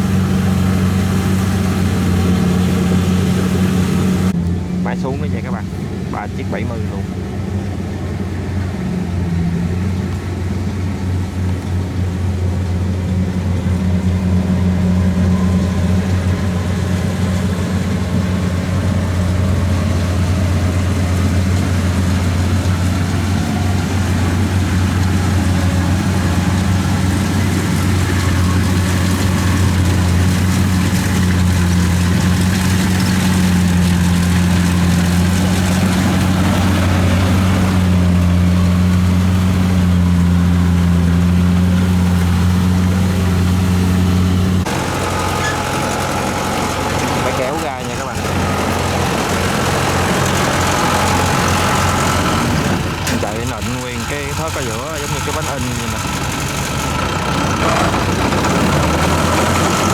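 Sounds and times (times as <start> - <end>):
combine harvester diesel engine humming: 0.0 - 59.9.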